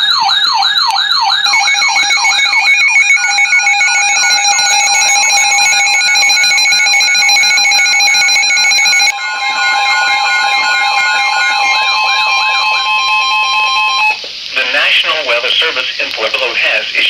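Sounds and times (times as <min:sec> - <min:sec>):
electronic siren sweeping: 0:00.0 - 0:14.2
pulsing electronic alarm tones: 0:00.0 - 0:14.2.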